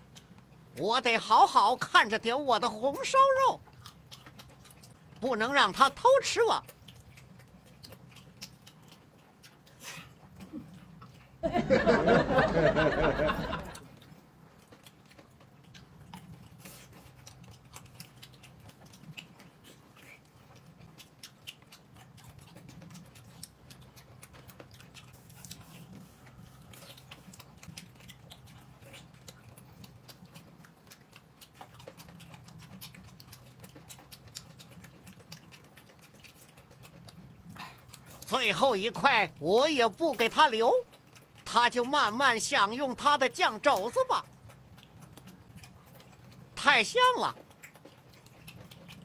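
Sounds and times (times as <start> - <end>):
chewing and mouth noises: 0.0 - 49.0.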